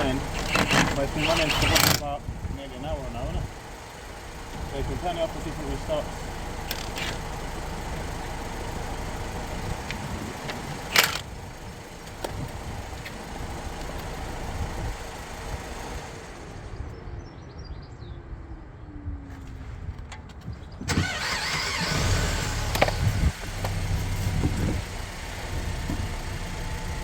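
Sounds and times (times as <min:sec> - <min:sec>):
car engine idling: 0:00.0 - 0:17.4, 0:20.9 - 0:27.0.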